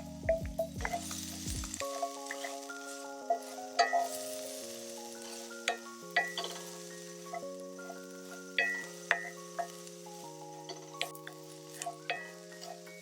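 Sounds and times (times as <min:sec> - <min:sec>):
background music with held chords: 0:00.0 - 0:13.0
food sizzling in a skillet: 0:00.0 - 0:13.0.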